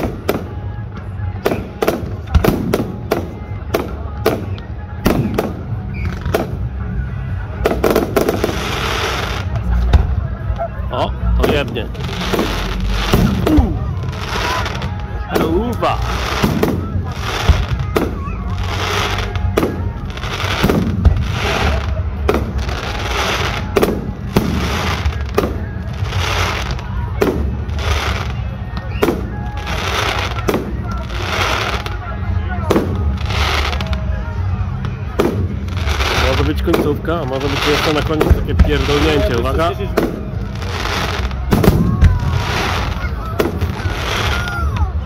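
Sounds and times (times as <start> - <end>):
dense firework crackle: 0.0 - 10.6, 11.2 - 45.0.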